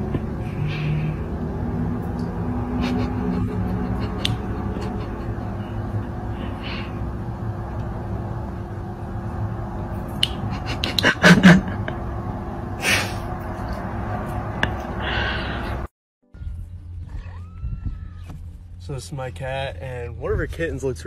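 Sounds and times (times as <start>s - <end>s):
steady low hum: 0.0s - 17.2s.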